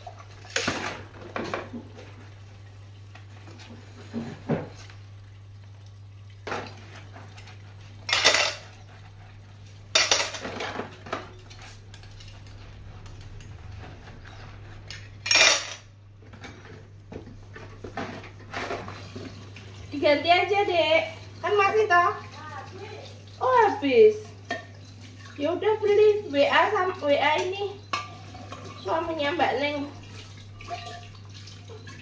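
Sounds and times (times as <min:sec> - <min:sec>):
dishes clattering in a sink: 0:00.0 - 0:02.4, 0:03.1 - 0:05.1, 0:06.4 - 0:09.3, 0:09.9 - 0:20.0, 0:21.0 - 0:32.0.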